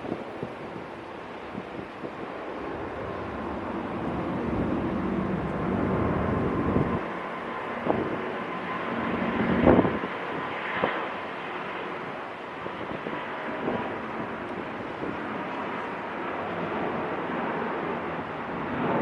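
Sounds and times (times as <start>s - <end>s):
wind buffeting microphone: 0.0s - 11.2s, 11.8s - 19.0s
jet engine rumble with whine: 0.0s - 19.0s.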